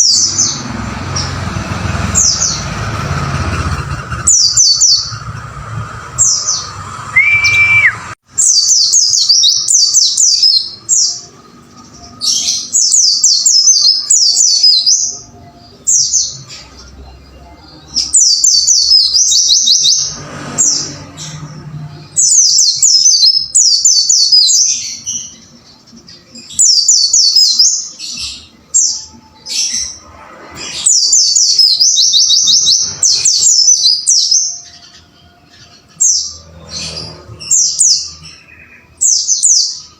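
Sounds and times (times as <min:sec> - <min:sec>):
bird twittering song: 0:00.0 - 0:30.0, 0:30.6 - 0:39.9.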